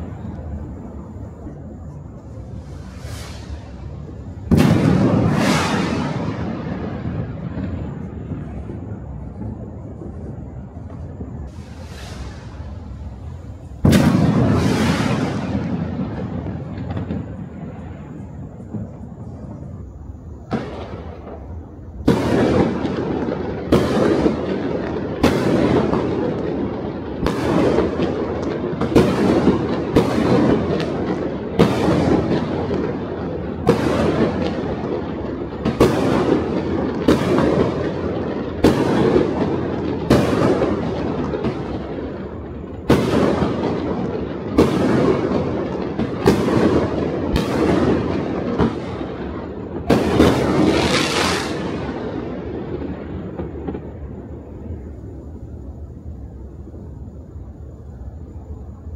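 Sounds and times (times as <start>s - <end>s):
echoing rumble: 0.0s - 57.3s
fireworks bangs: 0.0s - 58.9s.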